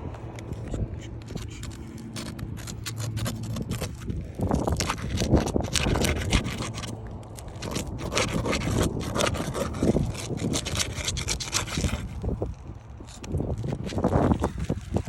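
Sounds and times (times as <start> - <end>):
tool scraping roof shingles: 0.0 - 15.0.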